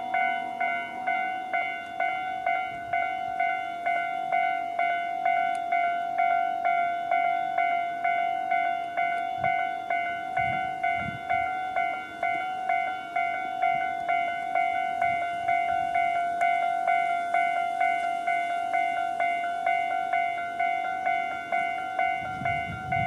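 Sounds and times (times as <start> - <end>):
level crossing warning bells: 0.0 - 23.0.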